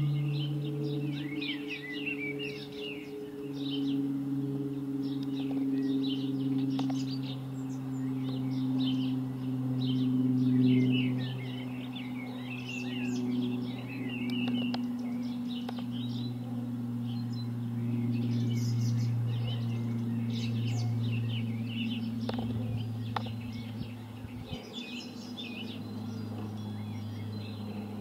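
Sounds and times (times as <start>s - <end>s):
small birds chirping: 0.0s - 28.0s
turboprop aircraft drone overhead: 0.0s - 28.0s.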